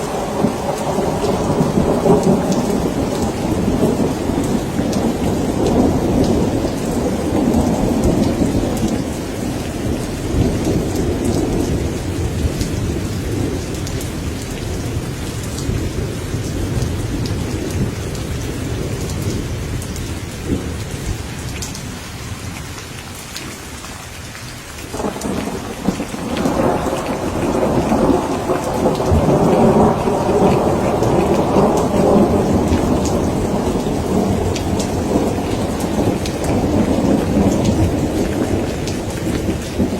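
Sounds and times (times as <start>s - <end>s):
rolling thunder: 0.0s - 21.4s, 24.9s - 39.9s
steady rain: 0.0s - 39.9s.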